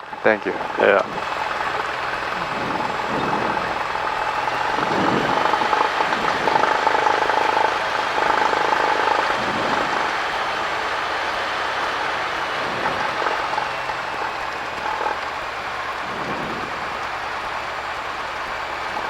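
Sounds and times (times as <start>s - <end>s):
airplane engine running at low power: 0.0s - 19.0s.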